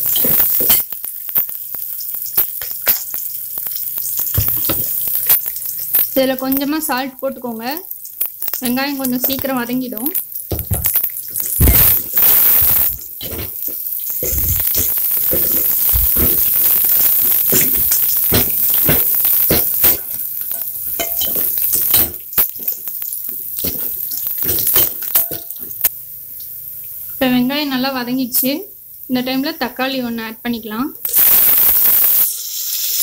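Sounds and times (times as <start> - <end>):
onions sizzling in hot oil: 0.0 - 27.2, 31.0 - 33.0.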